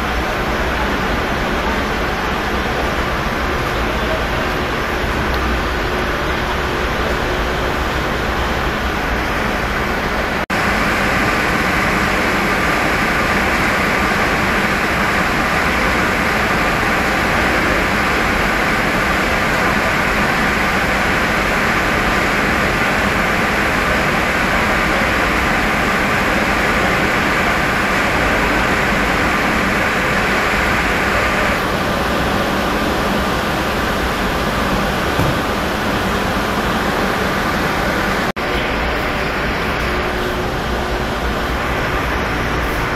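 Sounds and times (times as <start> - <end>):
steady loud rushing noise: 0.0 - 42.9.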